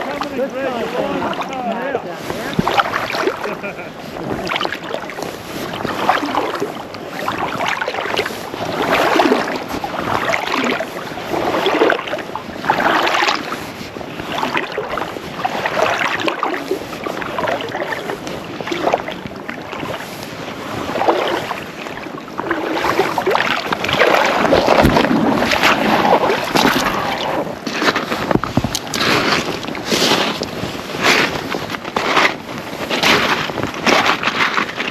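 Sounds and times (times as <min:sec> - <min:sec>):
water sloshing and lapping: 0:00.0 - 0:34.9
wind buffeting microphone: 0:01.9 - 0:34.9.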